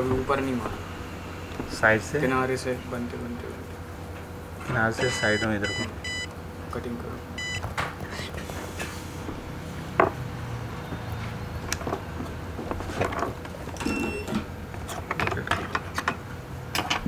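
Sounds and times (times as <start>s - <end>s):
hot air station fan whirring: 0.0s - 17.0s.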